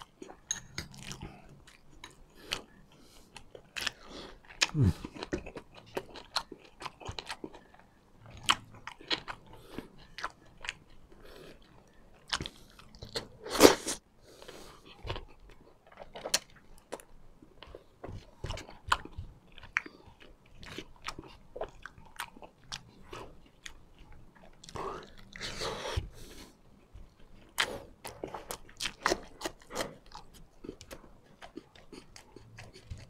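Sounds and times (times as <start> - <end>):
chewing food: 0.0 - 13.5, 14.4 - 33.0.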